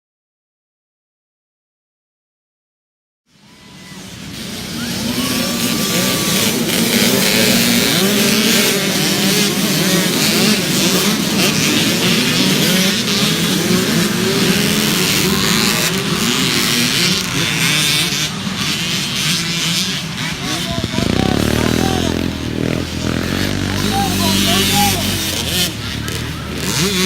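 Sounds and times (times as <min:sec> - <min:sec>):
dirt bikes revving: 0:03.4 - 0:27.0.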